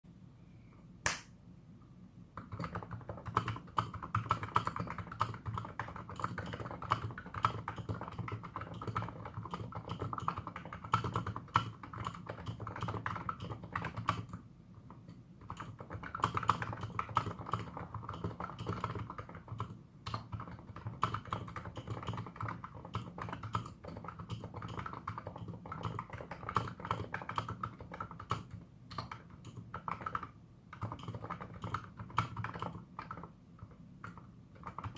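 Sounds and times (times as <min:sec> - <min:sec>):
keyboard typing: 0:02.4 - 0:34.9.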